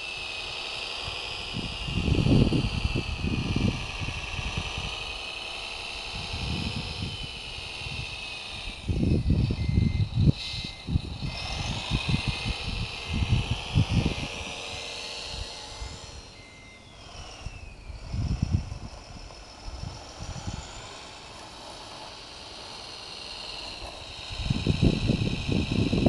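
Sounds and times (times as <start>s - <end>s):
toy loader motors whining: 0.0s - 26.0s
wind buffeting microphone: 0.4s - 16.3s, 17.0s - 21.1s, 23.6s - 26.0s.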